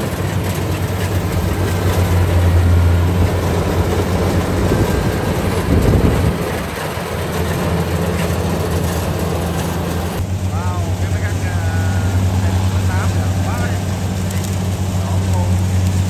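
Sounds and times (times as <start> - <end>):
diesel engine humming: 0.0 - 16.0
rushing mechanical noise: 0.0 - 16.0.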